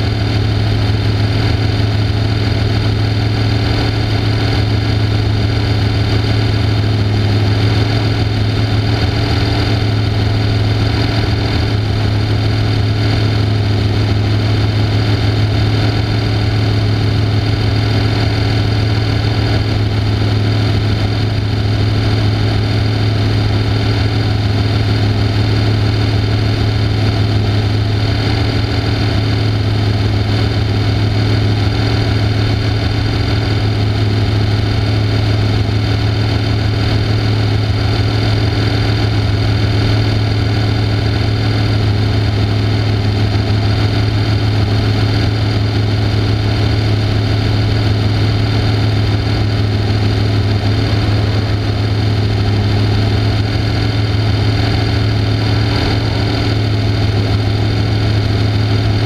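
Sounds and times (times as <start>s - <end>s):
race car engine idling: 0.0s - 59.0s.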